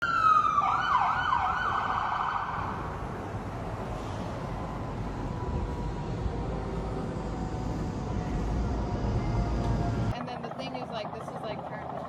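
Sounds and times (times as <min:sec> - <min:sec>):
emergency vehicle siren: 0:00.0 - 0:10.2
steady background noise: 0:00.9 - 0:12.0.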